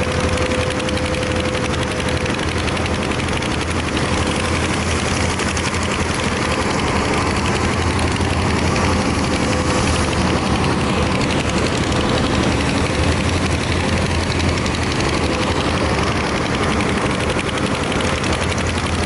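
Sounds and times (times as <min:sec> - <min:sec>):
excavator diesel engine clattering: 0:00.0 - 0:19.0
thin steady whine: 0:00.0 - 0:19.0.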